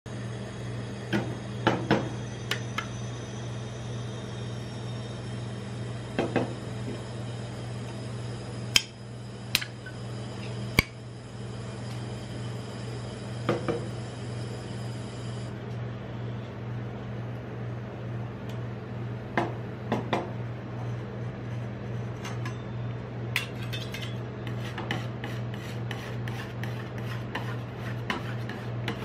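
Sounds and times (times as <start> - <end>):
steady low hum: 0.1 - 29.0.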